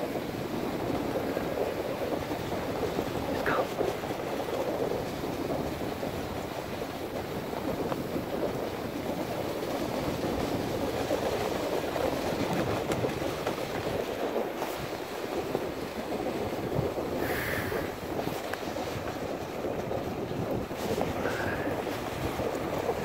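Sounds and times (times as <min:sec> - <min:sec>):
sled runners scraping over snow: 0:00.0 - 0:23.0.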